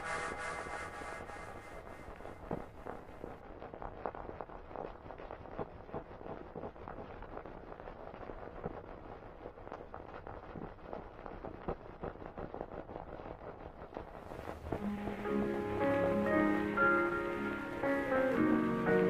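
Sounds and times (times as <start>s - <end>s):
record crackle and pops: 0.0s - 19.0s
steady hiss: 0.0s - 19.0s.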